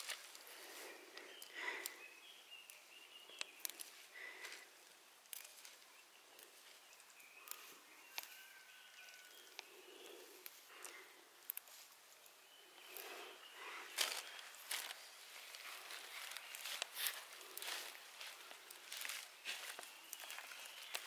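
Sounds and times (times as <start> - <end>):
faint bird chirps: 0.4 - 21.0.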